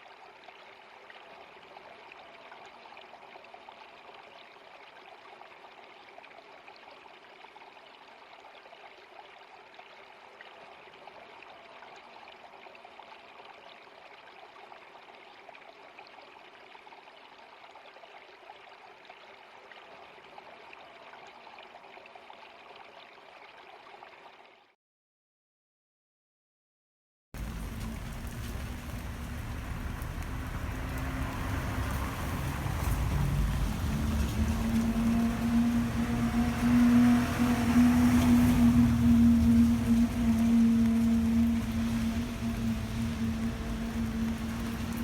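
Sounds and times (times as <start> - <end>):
flowing water rushing: 0.0 - 24.5, 27.4 - 45.0.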